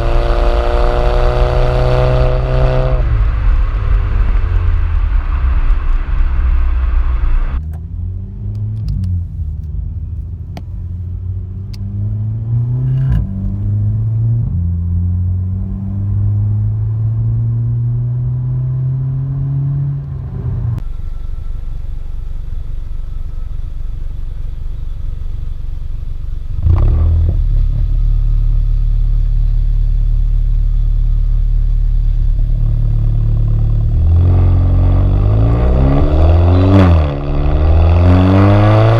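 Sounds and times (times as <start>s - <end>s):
car engine accelerating: 0.0s - 21.0s, 25.7s - 38.9s.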